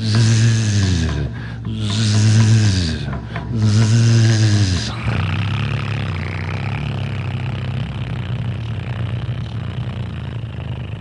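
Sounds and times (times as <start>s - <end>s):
low steady drone: 0.0s - 11.0s
rasping hiss: 0.0s - 11.0s.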